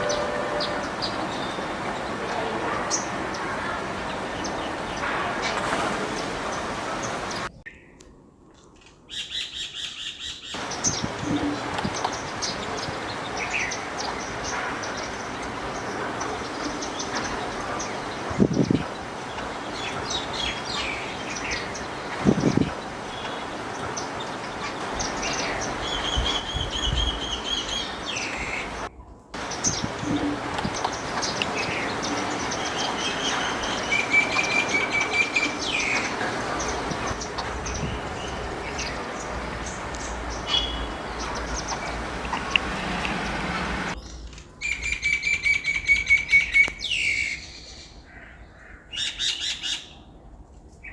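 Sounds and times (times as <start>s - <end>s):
small birds chirping: 0.0s - 50.1s
background hiss: 0.0s - 50.9s.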